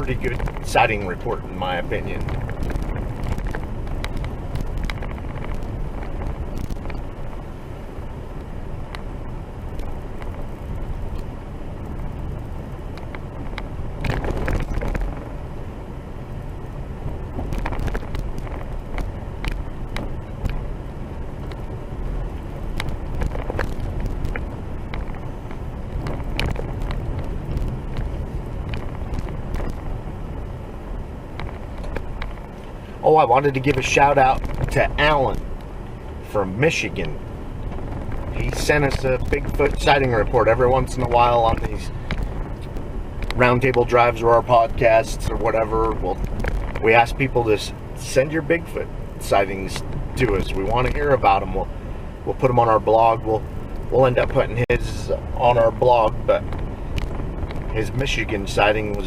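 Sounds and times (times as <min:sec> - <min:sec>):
vehicle rumble on dirt road: 0:00.0 - 0:59.0.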